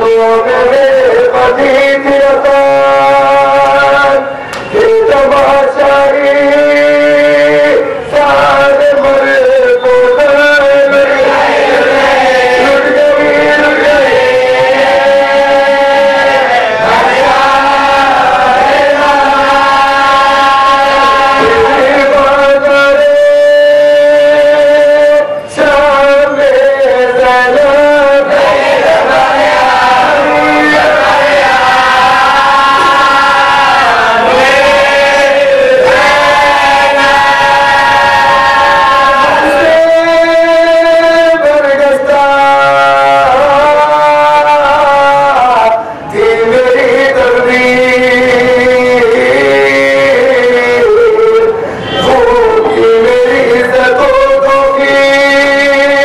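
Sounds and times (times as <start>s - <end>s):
man chanting: 0.0s - 56.0s.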